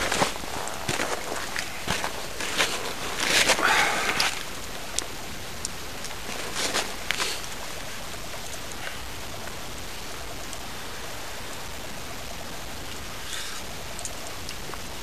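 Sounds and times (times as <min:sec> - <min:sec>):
campfire crackling and hissing: 0:00.0 - 0:15.0.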